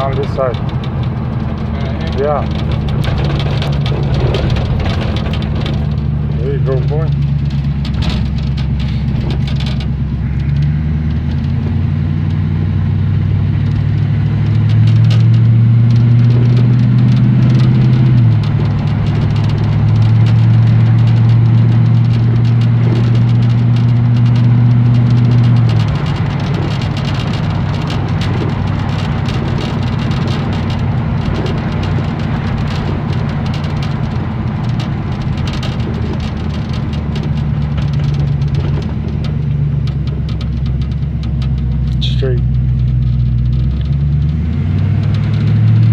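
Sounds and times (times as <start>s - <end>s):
pickup truck engine driving: 0.0s - 45.9s
tyre and wind noise: 0.0s - 45.9s.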